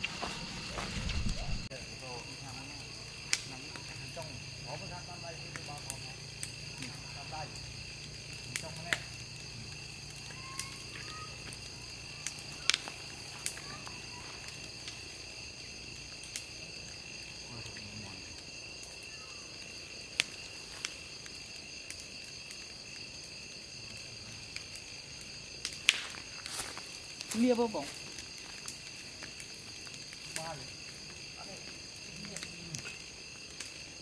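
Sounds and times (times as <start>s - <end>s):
campfire crackling and popping: 0.0s - 34.0s
crickets chirping: 0.0s - 34.0s.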